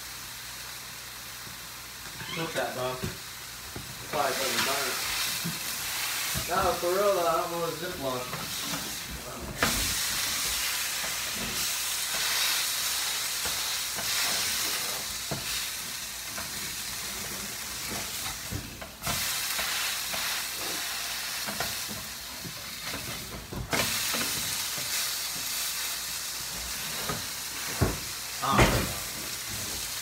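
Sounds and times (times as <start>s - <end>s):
meat sizzling in a frying pan: 0.0s - 30.0s.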